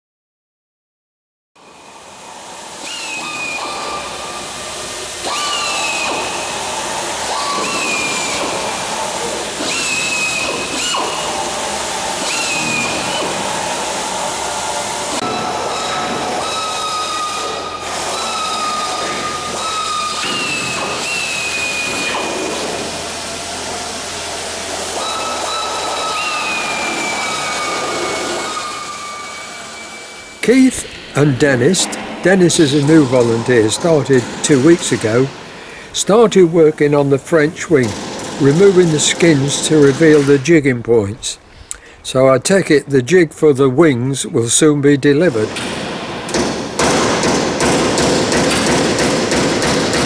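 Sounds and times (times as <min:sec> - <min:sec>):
air tools whining: 0:01.6 - 0:42.2, 0:44.2 - 0:50.0
constant air hiss: 0:01.6 - 0:50.0.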